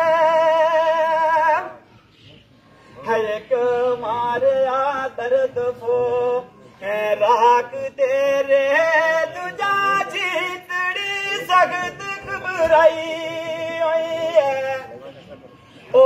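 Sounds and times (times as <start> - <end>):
man singing through a megaphone: 0.0 - 16.0.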